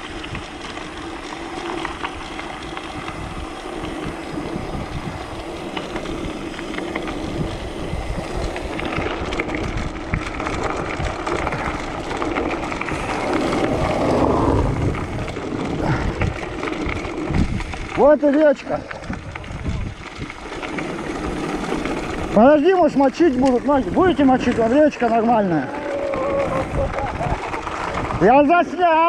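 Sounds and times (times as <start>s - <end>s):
bike tyre rumble and rattle: 0.0s - 29.0s
wind buffeting microphone: 1.9s - 28.9s.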